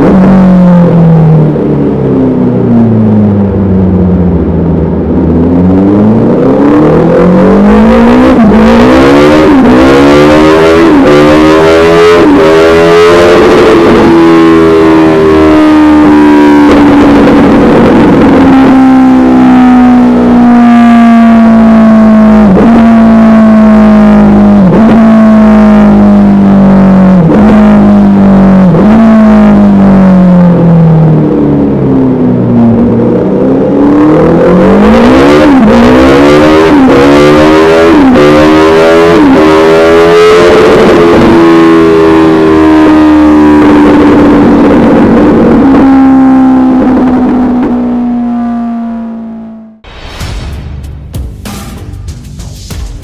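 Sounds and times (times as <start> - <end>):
motorcycle engine revving: 0.0 - 50.1.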